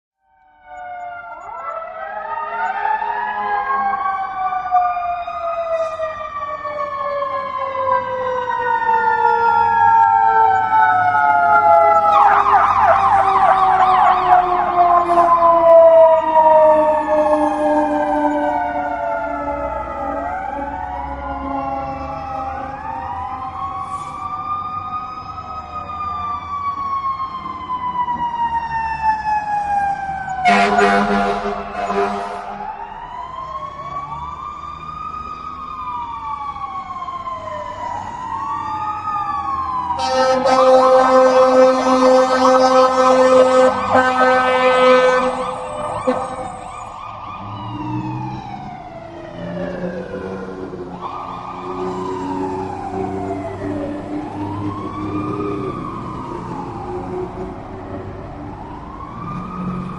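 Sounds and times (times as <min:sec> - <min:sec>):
police siren wailing: 0:00.2 - 0:59.9.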